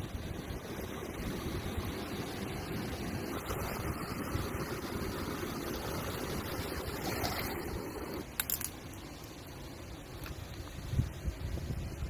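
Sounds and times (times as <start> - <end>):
wind buffeting microphone: 0.0 - 8.2, 10.4 - 12.0.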